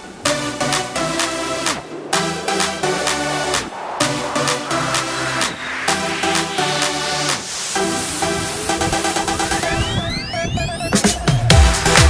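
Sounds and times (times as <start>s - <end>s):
electronic dance music: 0.0s - 12.0s
rising synth sweep: 0.1s - 11.5s.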